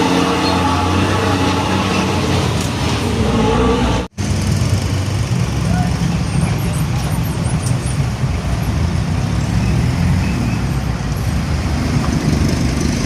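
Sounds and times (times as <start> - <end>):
heavy road traffic: 0.0 - 13.0
truck engines rumbling: 0.0 - 13.0.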